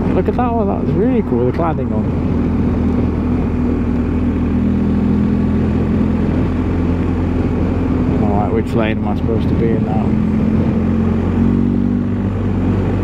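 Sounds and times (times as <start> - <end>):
motorcycle engine running: 0.0 - 13.0
road noise: 0.0 - 13.0
wind noise: 0.0 - 13.0.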